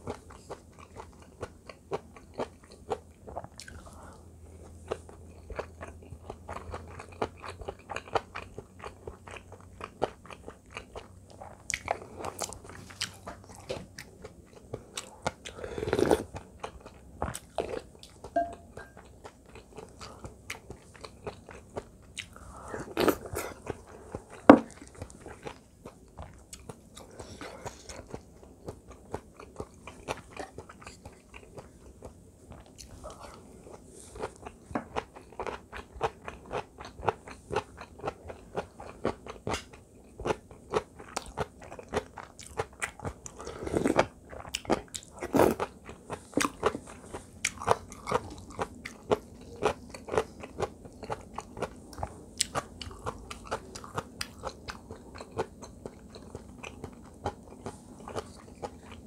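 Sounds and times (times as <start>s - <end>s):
chewing with wet crunches: 0.0s - 59.0s.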